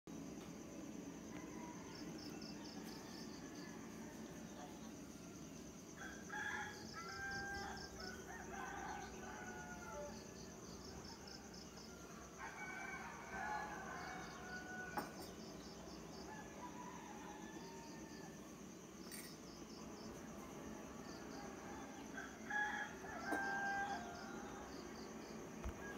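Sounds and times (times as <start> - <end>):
high-pitched insect trill: 0.1 - 25.9
faint rooster crowing: 1.2 - 19.3, 20.0 - 25.9.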